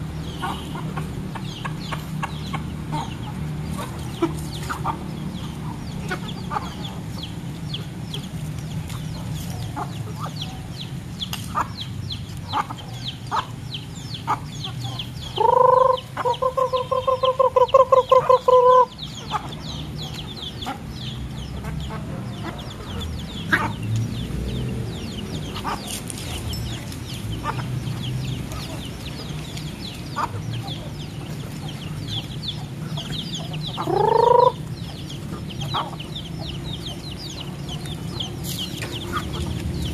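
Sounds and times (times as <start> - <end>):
hen calling and clucking: 0.0 - 10.6, 11.4 - 23.9, 25.0 - 39.9
chicks peeping: 0.0 - 39.9.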